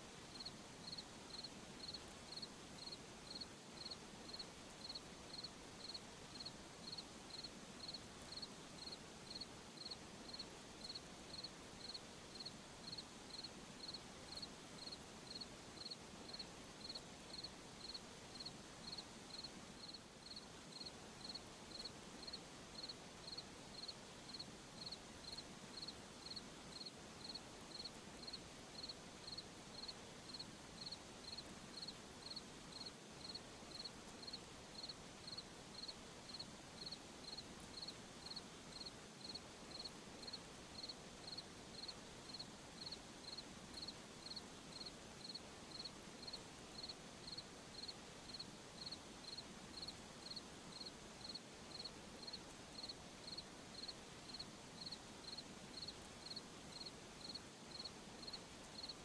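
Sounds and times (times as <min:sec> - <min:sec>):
faint background hiss: 0:00.0 - 0:59.0
cricket chirping: 0:00.3 - 0:59.0.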